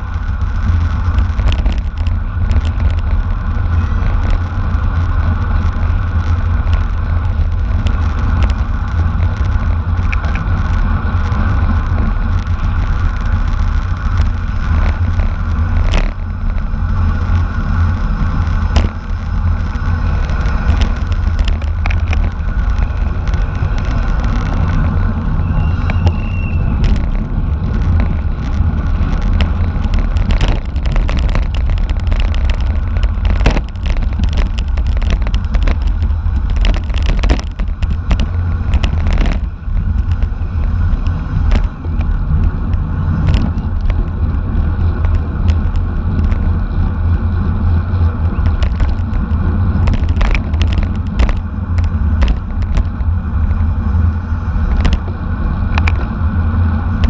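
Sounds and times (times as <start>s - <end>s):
bicycle tyre and road noise: 0.0s - 57.0s
wind rumbling on microphone: 0.0s - 57.0s.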